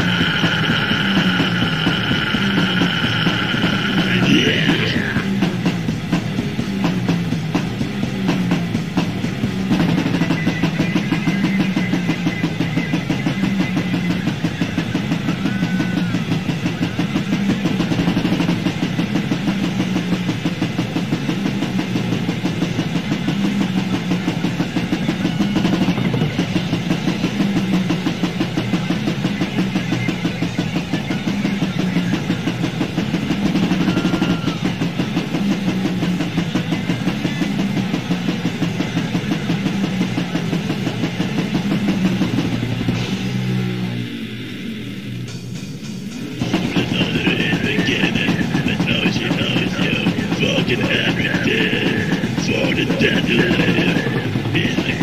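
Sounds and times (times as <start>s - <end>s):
fast drumming: 0.0s - 44.0s, 45.3s - 55.0s
distorted guitars: 0.0s - 55.0s.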